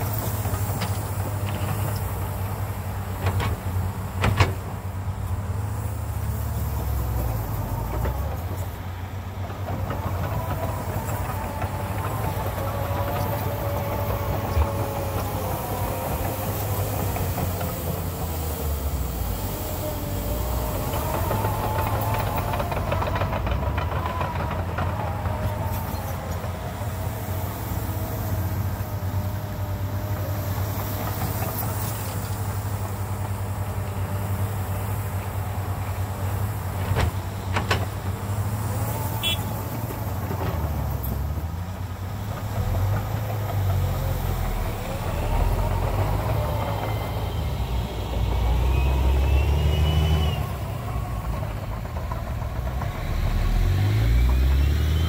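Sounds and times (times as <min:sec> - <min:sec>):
diesel loader engine working: 0:00.0 - 0:55.0.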